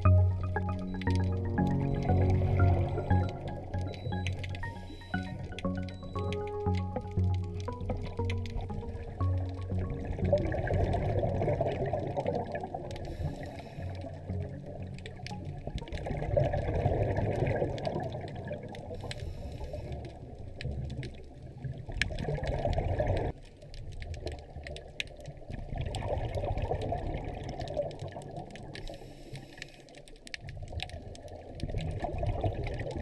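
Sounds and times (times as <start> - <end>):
exhaled bubbles rushing underwater: 0.0 - 19.1, 19.7 - 23.3, 24.2 - 28.9, 30.7 - 33.0.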